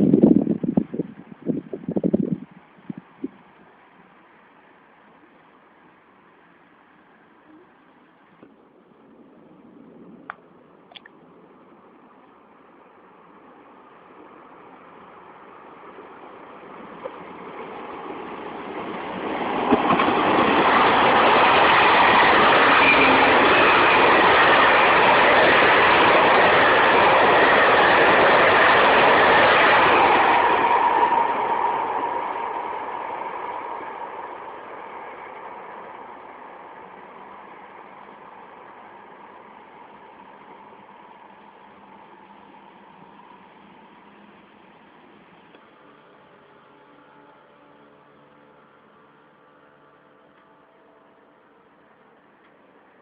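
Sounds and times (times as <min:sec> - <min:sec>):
train passing rumble: 0:00.0 - 0:53.0.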